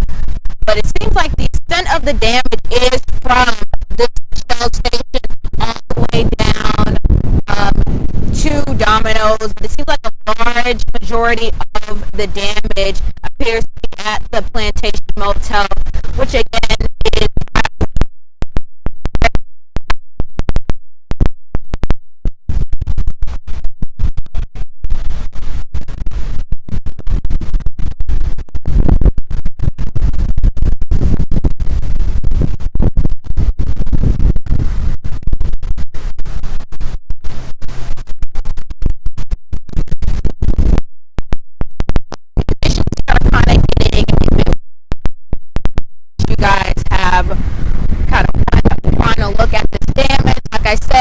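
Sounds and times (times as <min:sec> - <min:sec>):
wind buffeting microphone: 0:00.0 - 0:18.1, 0:22.3 - 0:40.9, 0:41.6 - 0:44.6, 0:45.4 - 0:51.0.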